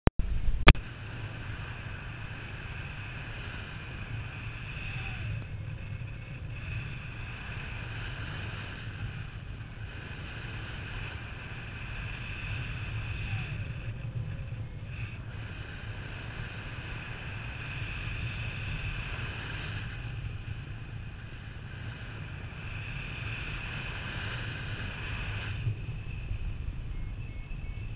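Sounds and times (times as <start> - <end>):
wind rushing over microphone: 0.2 - 27.9.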